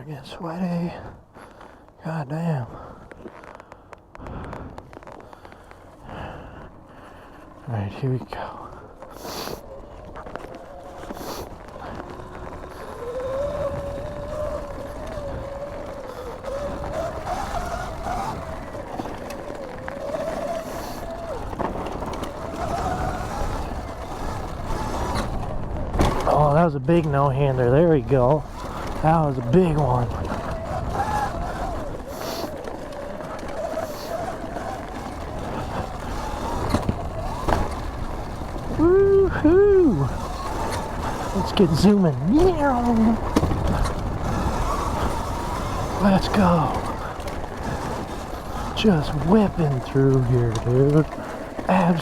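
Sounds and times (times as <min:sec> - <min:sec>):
wind and tyre rumble: 0:00.0 - 0:52.0
electric motorbike whine: 0:02.7 - 0:52.0.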